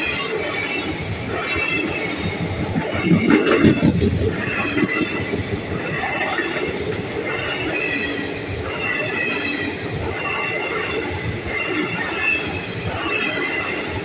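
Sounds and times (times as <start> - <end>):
high wheel squeal: 0.0 - 14.0
train wheels rumbling over rails: 0.0 - 14.0.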